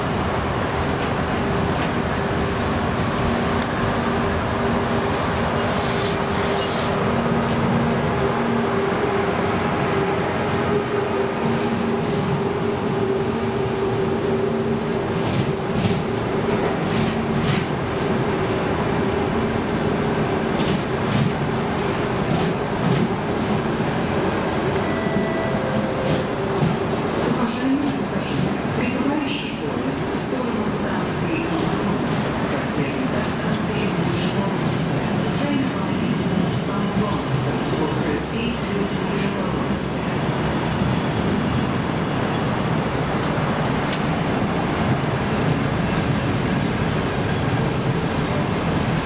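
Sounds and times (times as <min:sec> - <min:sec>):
electric locomotive hum: 0:00.0 - 0:49.0
train wheels rumbling on rails: 0:00.0 - 0:49.0.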